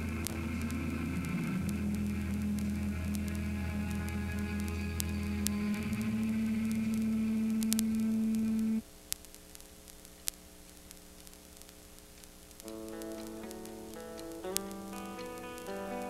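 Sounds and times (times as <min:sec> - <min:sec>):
faint clicks: 0:00.0 - 0:16.0
low hum and hiss: 0:00.0 - 0:16.0.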